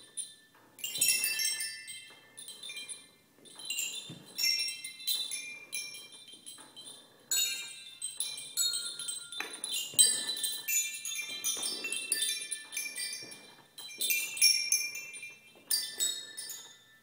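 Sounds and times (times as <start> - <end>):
chime rods jangling: 0.0 - 17.0.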